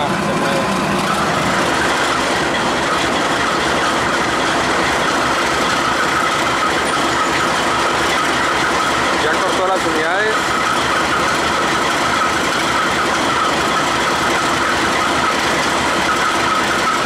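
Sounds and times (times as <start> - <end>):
diesel locomotive engines rumbling: 0.0 - 17.0
wheels clattering on rails: 0.0 - 17.0.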